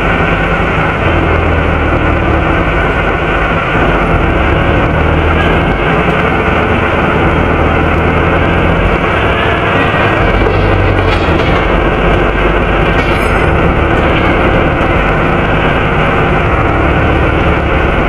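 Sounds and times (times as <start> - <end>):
bus engine drone: 0.0 - 18.0
cooling fan rushing: 0.0 - 18.0.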